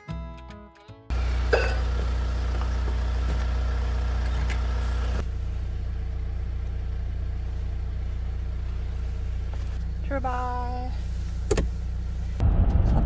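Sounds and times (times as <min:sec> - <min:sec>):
car engine humming: 0:01.1 - 0:13.0.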